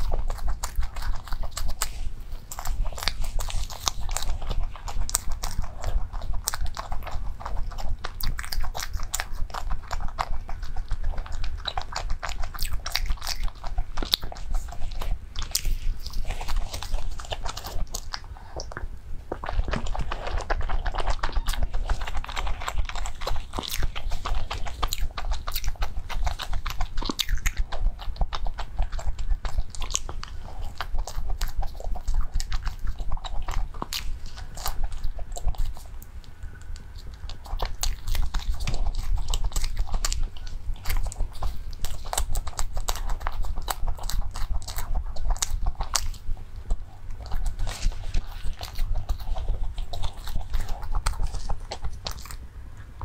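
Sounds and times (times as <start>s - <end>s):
chewing soft bread: 0.0s - 53.0s
steady low hum: 0.0s - 53.0s.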